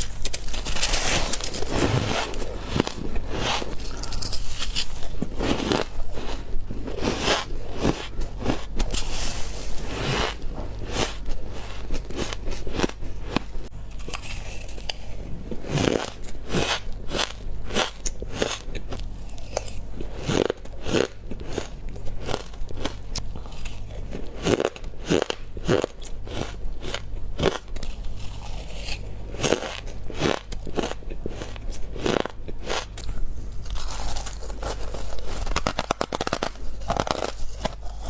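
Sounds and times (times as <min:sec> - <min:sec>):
ice crunching between teeth: 0:00.0 - 0:38.0.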